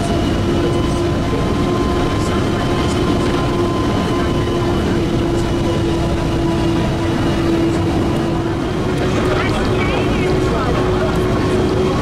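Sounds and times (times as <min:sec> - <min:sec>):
constant hum: 0:00.0 - 0:12.0
railcar engine and wheels droning: 0:00.0 - 0:12.0.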